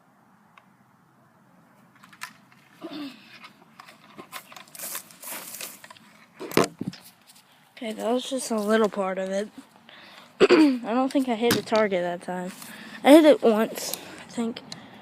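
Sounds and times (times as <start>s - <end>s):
rustling and crackling: 1.7s - 10.3s, 10.9s - 14.5s.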